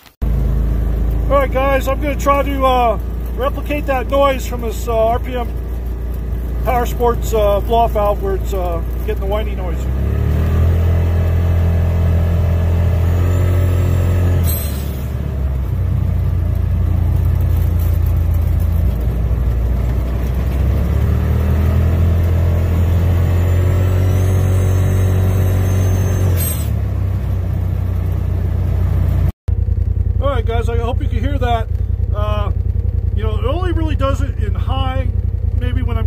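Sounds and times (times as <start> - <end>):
turbo whistling whine: 0.0 - 17.4, 20.1 - 34.6
engine pulling under load: 0.0 - 36.0.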